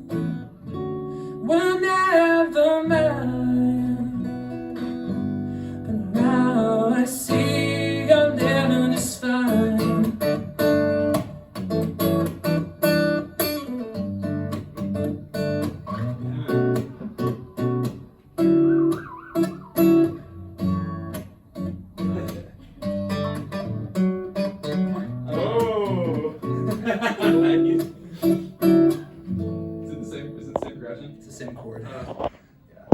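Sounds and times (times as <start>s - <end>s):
guitar strummed and picked: 0.0s - 31.5s.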